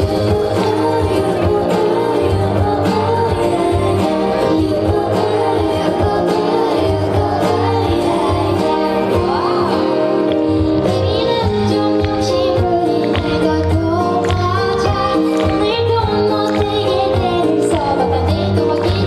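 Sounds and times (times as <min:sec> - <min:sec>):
live pop band playing: 0:00.0 - 0:19.0
woman singing: 0:00.0 - 0:19.0.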